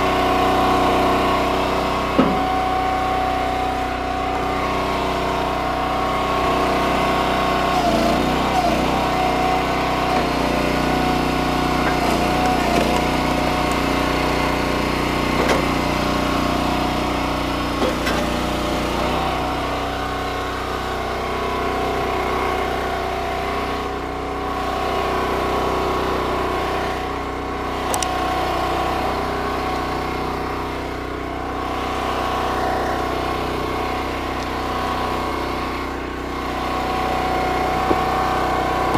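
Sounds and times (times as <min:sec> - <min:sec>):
wood splitter engine running: 0:00.0 - 0:38.9.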